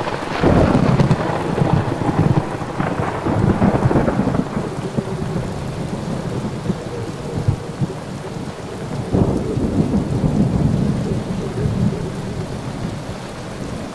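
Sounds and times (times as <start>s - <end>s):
rain-like hiss: 0.0s - 13.9s
rolling thunder rumbles: 0.0s - 13.9s.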